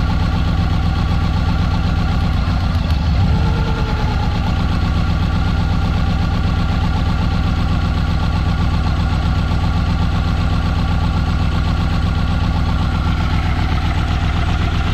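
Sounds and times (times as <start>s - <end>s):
car engine idling with misfire: 0.0s - 14.9s.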